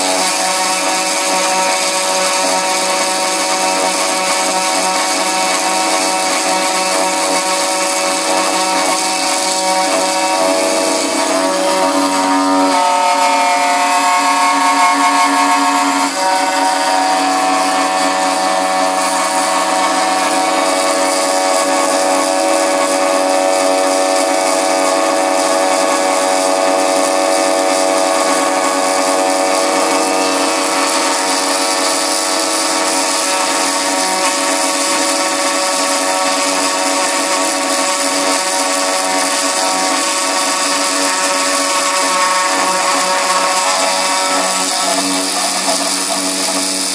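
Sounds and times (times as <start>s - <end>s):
end mill cutting aluminium: 0.0s - 46.9s
milling spindle whining: 0.0s - 46.9s.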